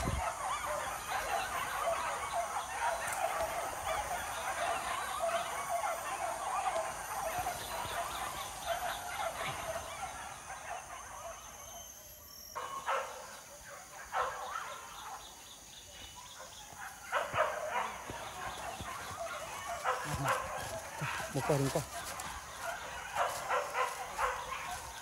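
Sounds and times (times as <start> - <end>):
dogs yelping and baying: 0.0 - 15.3, 16.0 - 25.0.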